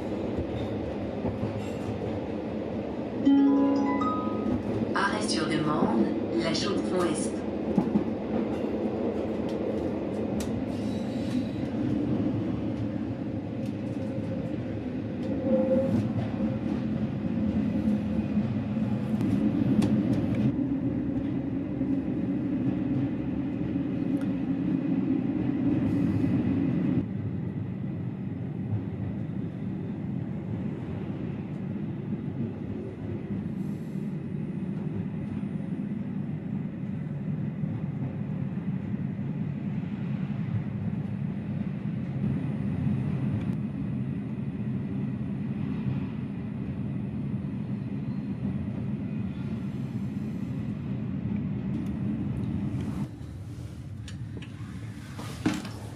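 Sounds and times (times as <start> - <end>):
train rumbling: 0.0 - 55.9.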